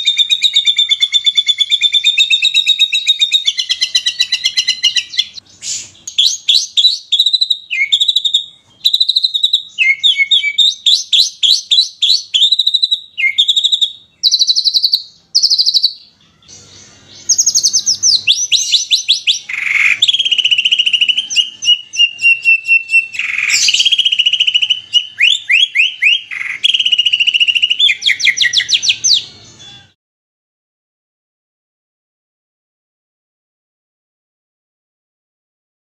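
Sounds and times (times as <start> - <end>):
songbird chirps and trills: 0.0 - 30.0.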